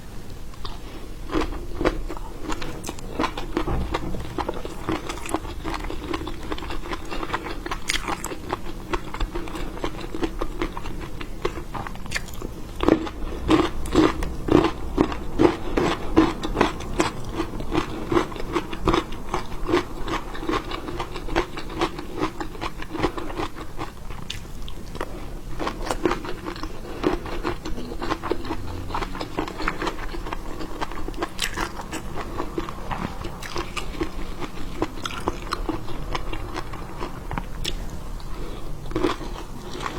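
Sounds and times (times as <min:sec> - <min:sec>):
person chewing crunchy food: 0:00.5 - 0:39.9.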